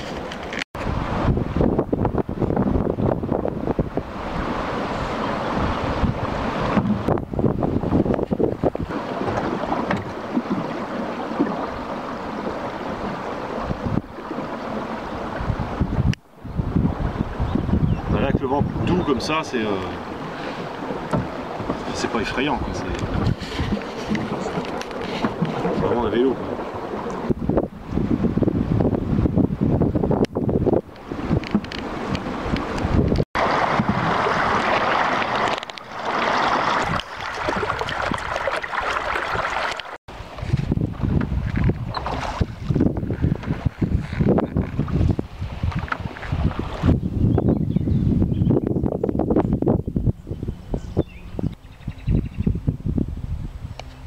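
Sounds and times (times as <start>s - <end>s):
water lapping along boat hull: 0.0s - 54.0s
wind buffeting microphone: 0.0s - 54.0s.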